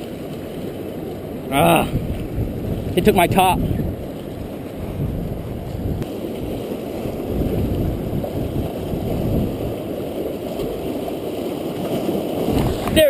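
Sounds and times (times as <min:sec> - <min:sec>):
waves washing against rocks: 0:00.0 - 0:13.0
wind buffeting microphone: 0:00.0 - 0:13.0.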